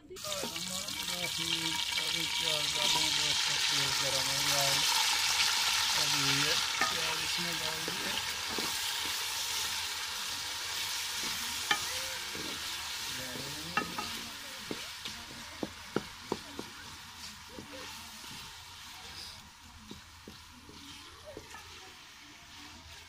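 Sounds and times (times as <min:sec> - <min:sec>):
onions sizzling in hot oil: 0:00.1 - 0:23.0.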